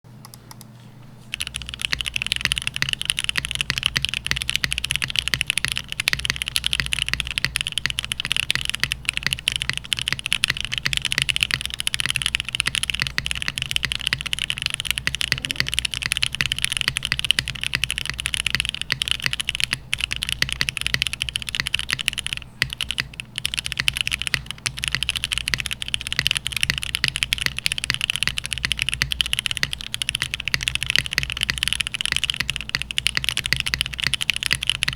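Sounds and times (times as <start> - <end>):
mechanical keyboard typing: 1.3 - 34.9.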